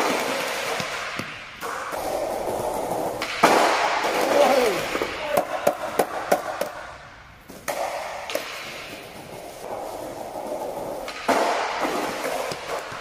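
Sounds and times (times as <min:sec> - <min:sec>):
skateboard clattering on ground: 0:00.0 - 0:06.8, 0:07.6 - 0:13.0
skateboard wheels rolling on stone: 0:00.0 - 0:06.8, 0:07.5 - 0:13.0
skateboard clack: 0:00.0 - 0:06.9, 0:07.5 - 0:13.0.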